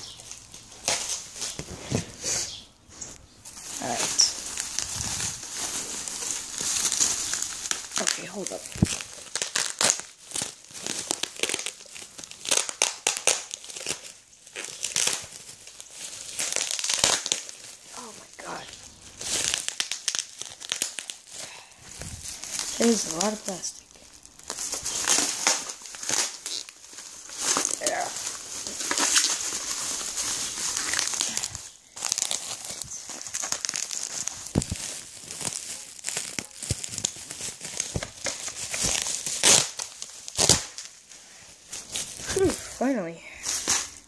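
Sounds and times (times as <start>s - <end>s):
plastic wrap crinkling: 0.0s - 44.0s.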